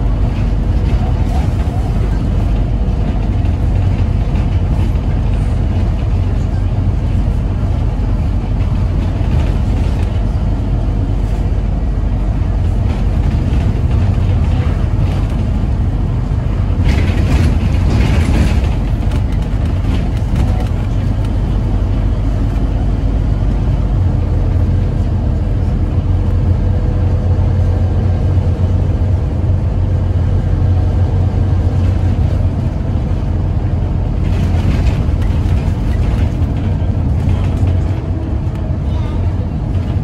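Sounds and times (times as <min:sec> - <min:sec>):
bus engine drone: 0:00.0 - 0:40.0.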